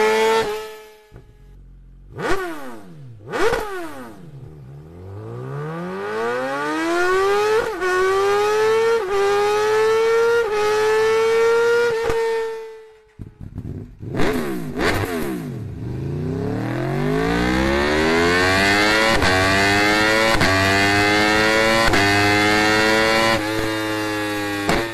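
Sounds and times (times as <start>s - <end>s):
motorcycle engine revving: 0.0s - 24.9s
motorcycle accelerating through gears: 2.1s - 24.9s.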